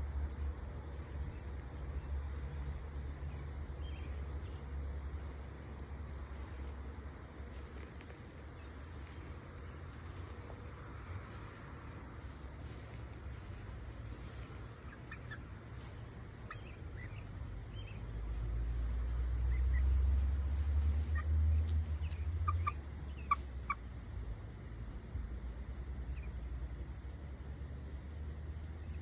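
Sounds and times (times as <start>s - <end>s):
chickens chirping: 0.0s - 23.9s.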